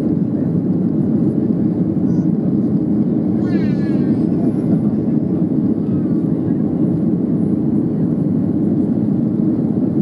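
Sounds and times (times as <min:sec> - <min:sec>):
jet engines in cabin: 0:00.0 - 0:10.0.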